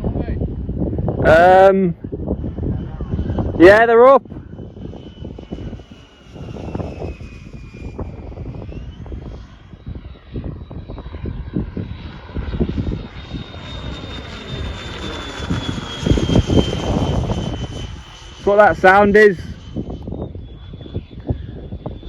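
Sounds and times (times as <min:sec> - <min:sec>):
model jet fan whining: 0:00.0 - 0:22.0
wind buffeting microphone: 0:00.0 - 0:22.0.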